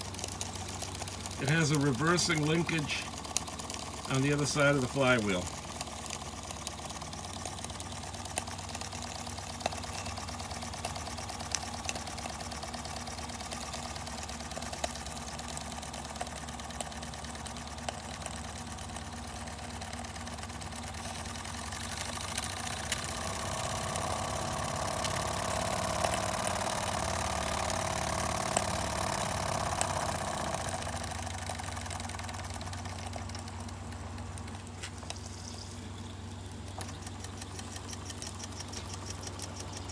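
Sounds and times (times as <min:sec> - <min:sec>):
toy steam engine clattering: 0:00.0 - 0:39.9.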